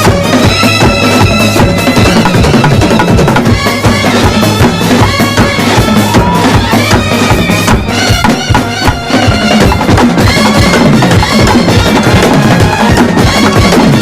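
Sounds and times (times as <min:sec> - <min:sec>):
fast drumming on bass and snare: 0:00.0 - 0:14.0
wind instruments melody: 0:00.0 - 0:14.0.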